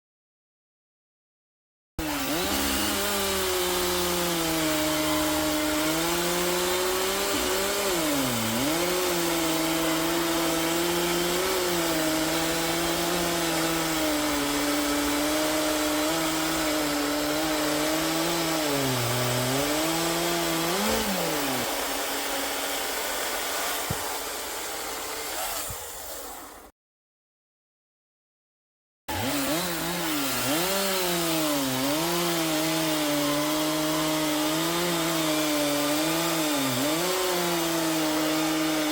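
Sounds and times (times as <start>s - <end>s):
chainsaw cutting through log: 2.0s - 26.7s, 29.1s - 38.9s.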